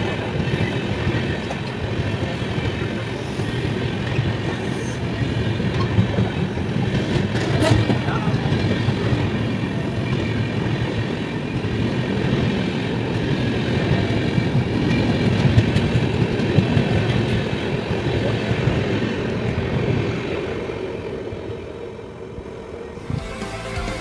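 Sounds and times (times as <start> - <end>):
train wheels rumbling on rails: 0.0 - 23.2.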